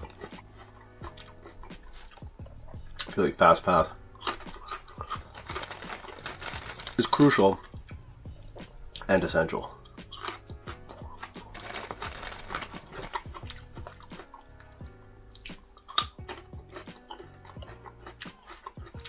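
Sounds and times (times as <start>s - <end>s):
close chewing: 0.0s - 3.2s, 4.1s - 8.0s, 9.8s - 19.0s
quiet background music: 0.0s - 19.0s.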